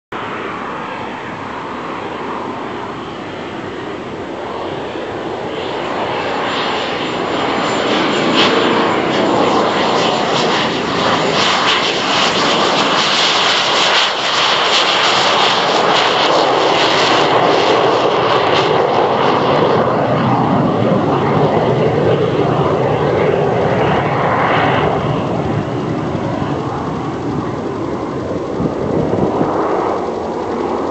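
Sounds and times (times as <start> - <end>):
jet engine roaring with whine: 0.1 - 30.9.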